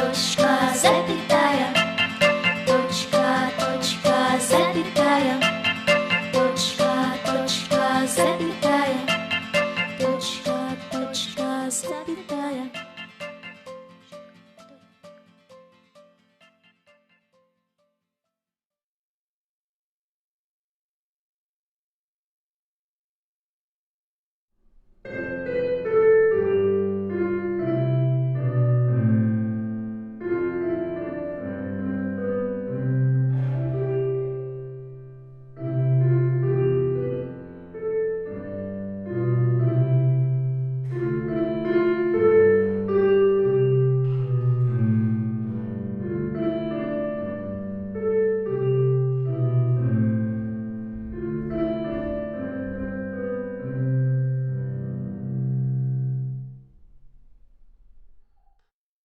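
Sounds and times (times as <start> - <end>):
piano music: 0.0 - 16.8, 25.0 - 56.8.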